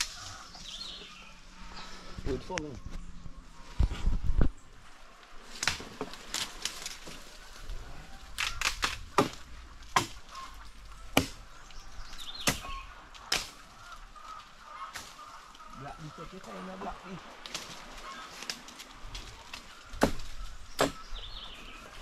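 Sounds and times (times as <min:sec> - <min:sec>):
branches cracking and knocking: 0:00.0 - 0:01.2, 0:03.6 - 0:22.0.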